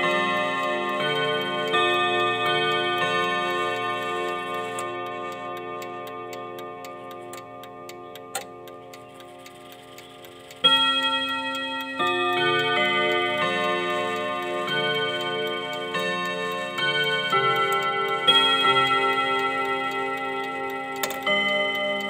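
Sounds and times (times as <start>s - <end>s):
clock chime rods ringing: 0.0s - 22.0s
clock ticking: 0.0s - 22.0s.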